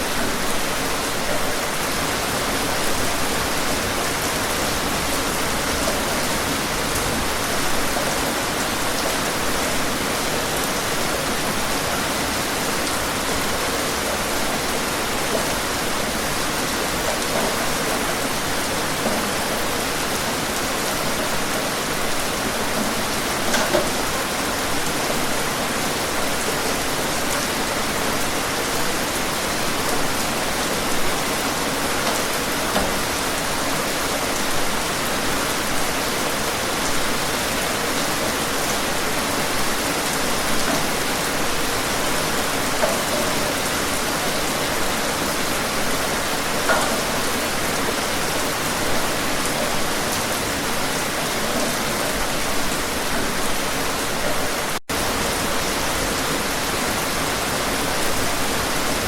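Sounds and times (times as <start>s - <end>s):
steady rain hiss: 0.0s - 59.0s
raindrops ticking on surface: 0.1s - 35.8s, 36.6s - 55.2s.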